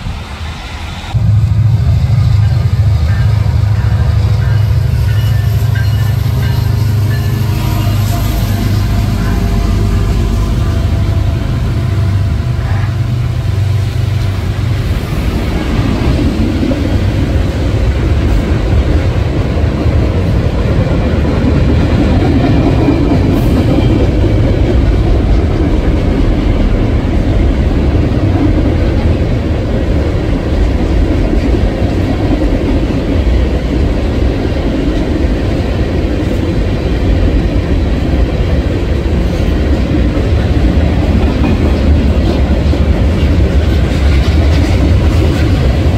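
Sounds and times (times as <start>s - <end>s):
train wheels rumbling on rails: 0.0s - 45.9s
locomotive engine hum: 1.0s - 45.9s.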